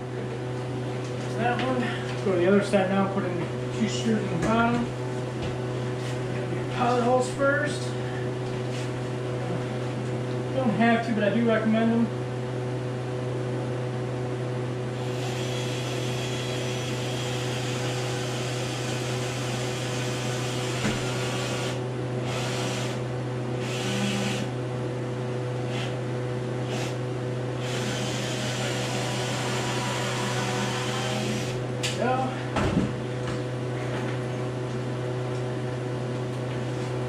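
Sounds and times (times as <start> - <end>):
electric fan motor hum: 0.0 - 37.0.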